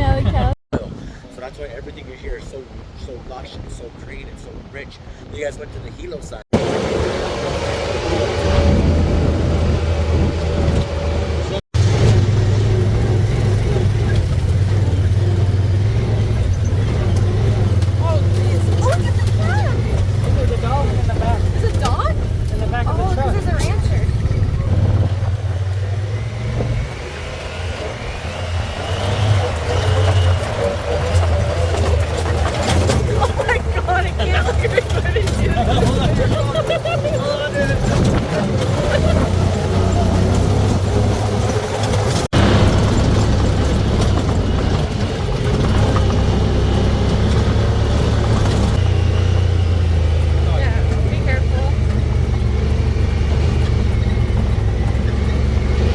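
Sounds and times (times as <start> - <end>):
engine low rumble: 0.0 - 55.9.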